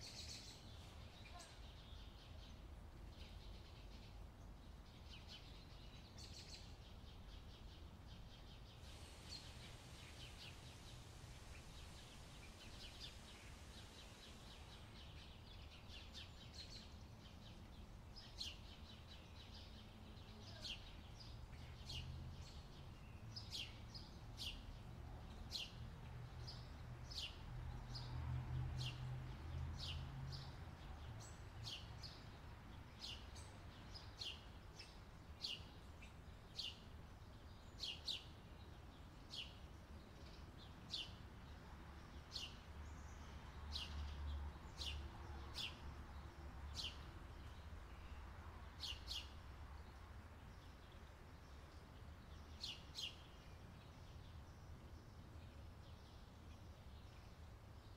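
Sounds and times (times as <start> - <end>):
songbird chirping: 0.0 - 57.9.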